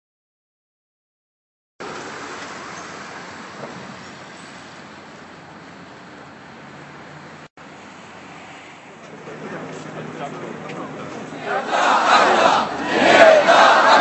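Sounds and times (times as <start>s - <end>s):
city traffic noise: 1.8s - 14.0s.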